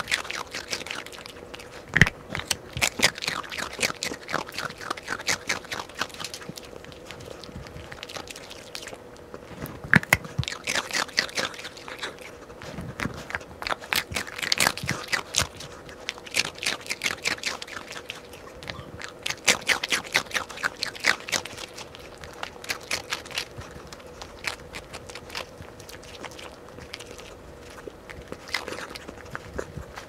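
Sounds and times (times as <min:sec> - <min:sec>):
dog crunching a biscuit: 0:00.0 - 0:30.0
faint steady hum: 0:00.0 - 0:30.0.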